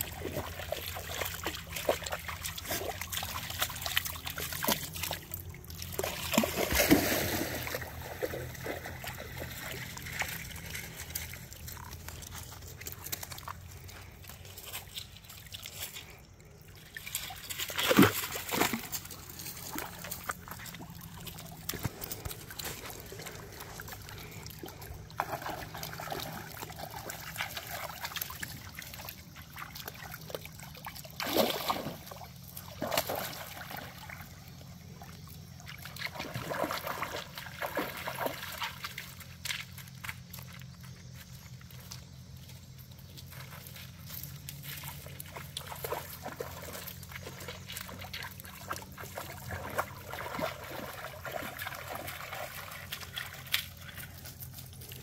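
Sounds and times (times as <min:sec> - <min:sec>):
water splashes: 0:00.0 - 0:40.9, 0:43.2 - 0:55.0
dogs wading through water: 0:00.0 - 0:55.0.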